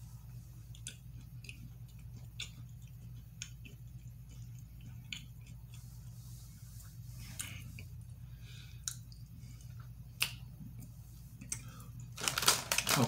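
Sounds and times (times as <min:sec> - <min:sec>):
steady low hum: 0:00.0 - 0:13.0
person chewing cookie: 0:00.3 - 0:12.2.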